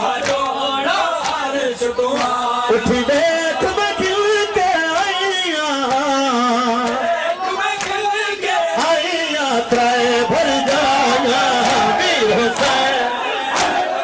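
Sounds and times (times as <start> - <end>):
man singing a lament: 0.0 - 13.3.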